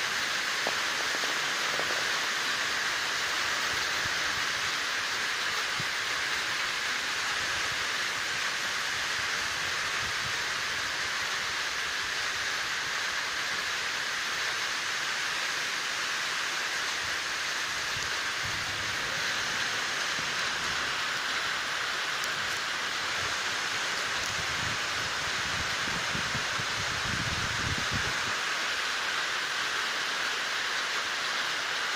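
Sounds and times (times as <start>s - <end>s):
rain falling on roofs and plants: 0.0s - 31.9s.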